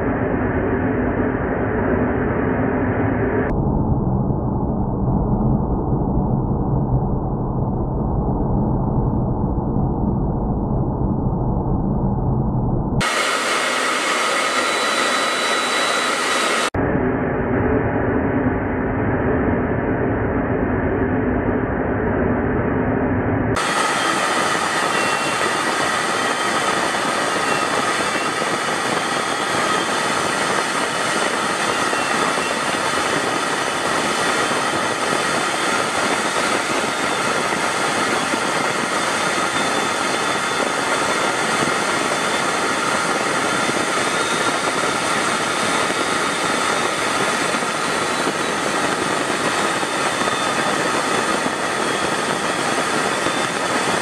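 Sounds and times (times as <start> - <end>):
jet aircraft in flight: 0.0 - 54.0.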